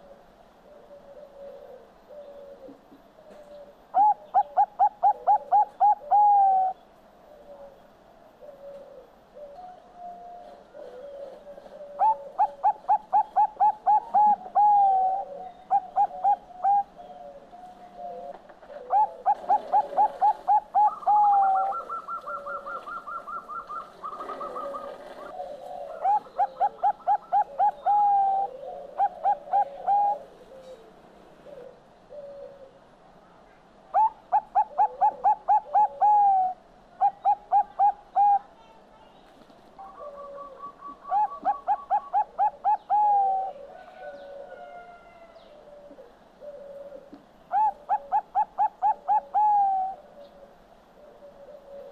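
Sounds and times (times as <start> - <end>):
dove cooing: 0.0 - 32.9, 33.9 - 38.7, 39.7 - 51.9.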